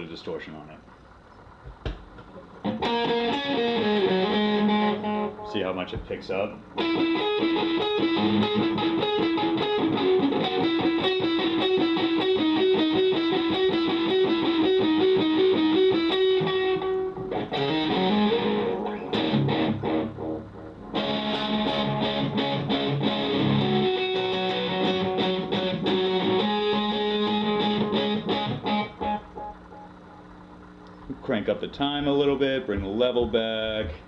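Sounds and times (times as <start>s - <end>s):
distorted electric guitar with delay: 2.5s - 34.0s.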